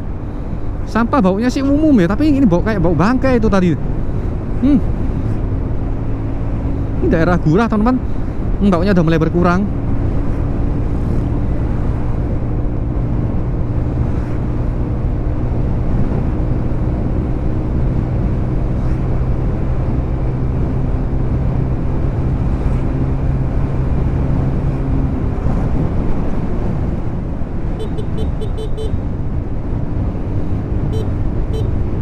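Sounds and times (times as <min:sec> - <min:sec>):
motorcycle engine drone: 0:00.0 - 0:32.0
wind and road noise: 0:00.0 - 0:32.0.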